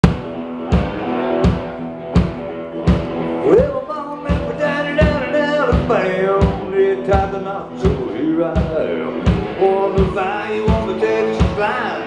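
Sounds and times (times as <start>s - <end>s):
drums steady beat: 0.0s - 12.0s
rock and roll band playing: 0.0s - 12.0s.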